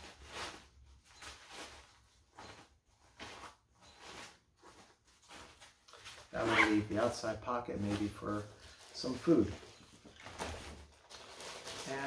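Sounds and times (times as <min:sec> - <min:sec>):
backpack fabric rustling: 0:00.0 - 0:12.0.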